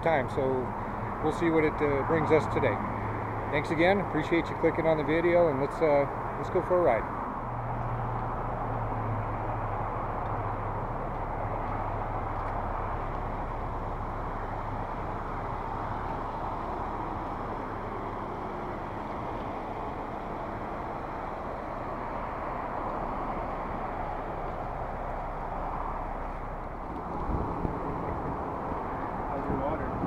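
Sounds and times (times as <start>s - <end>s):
low vehicle engine hum: 0.0s - 30.0s
outdoor rushing noise: 0.0s - 30.0s.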